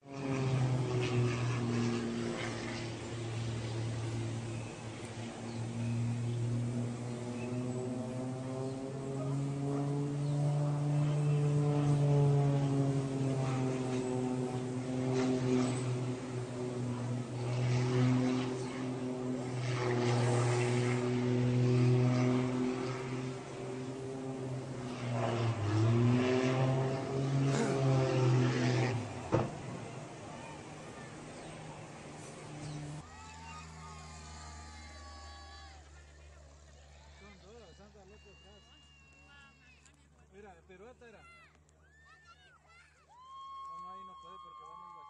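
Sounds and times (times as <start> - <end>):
propeller aircraft engine droning: 0.0 - 45.0.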